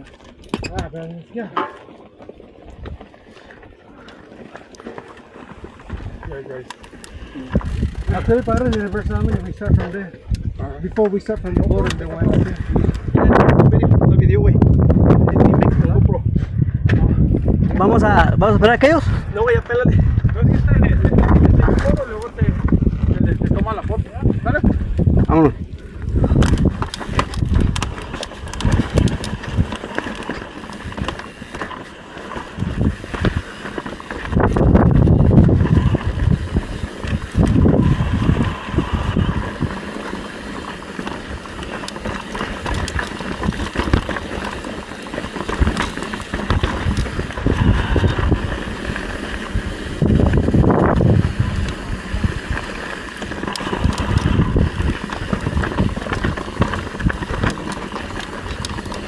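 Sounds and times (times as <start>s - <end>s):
bike drivetrain rattle: 0.0s - 59.0s
bike tyres rumbling on trail: 0.0s - 59.0s
wind buffeting microphone: 5.6s - 59.0s.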